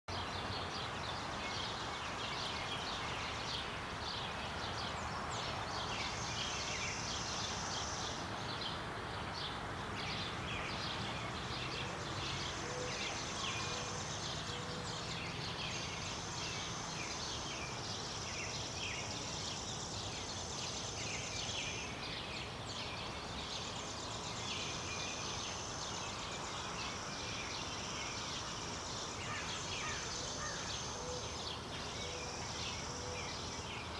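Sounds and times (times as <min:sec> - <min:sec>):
steady outdoor hiss: 0:00.1 - 0:33.9.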